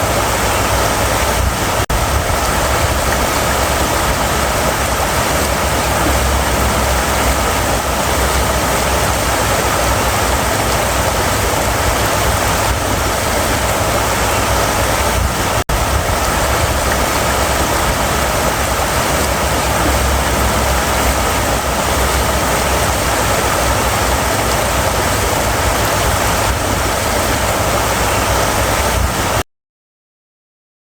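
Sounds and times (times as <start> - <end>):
river water rushing: 0.0 - 29.4.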